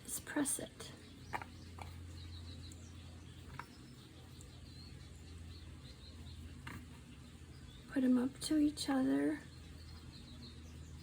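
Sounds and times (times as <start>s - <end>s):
faint high bird chirps: 0.3s - 11.0s.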